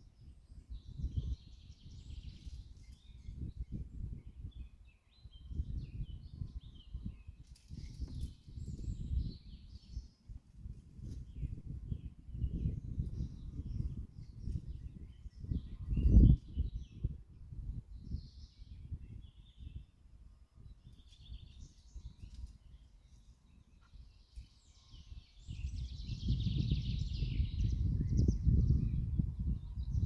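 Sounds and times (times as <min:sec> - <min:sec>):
wind gusting on microphone: 0:00.0 - 0:30.0.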